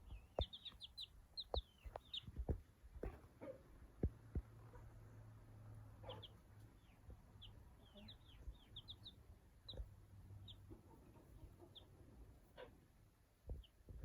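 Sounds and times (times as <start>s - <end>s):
chick peeping: 0.0s - 3.7s, 6.0s - 14.0s.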